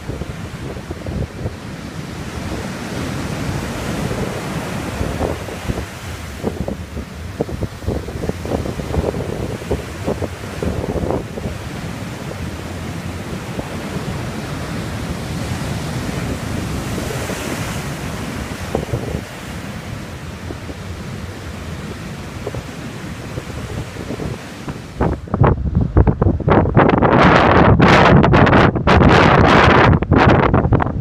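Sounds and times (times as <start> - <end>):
ocean surf breaking: 0.0 - 28.3
wind buffeting microphone: 0.0 - 31.0.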